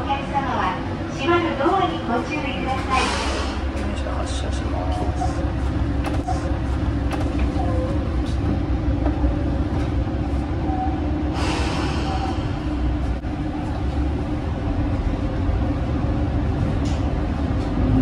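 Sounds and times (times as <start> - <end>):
diesel railcar rumbling: 0.0 - 18.0.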